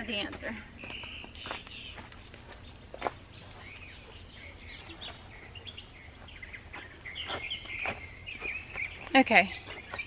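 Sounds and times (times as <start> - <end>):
birds chirping: 0.0 - 10.0
faint outdoor hush: 0.0 - 10.0.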